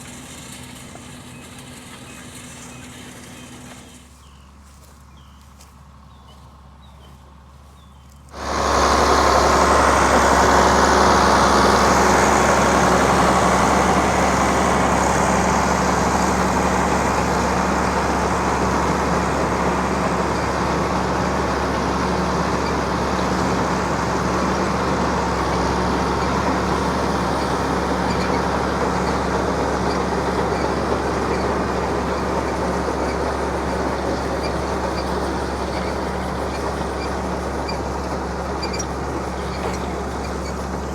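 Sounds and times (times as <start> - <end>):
tractor running loud: 0.0 - 40.9.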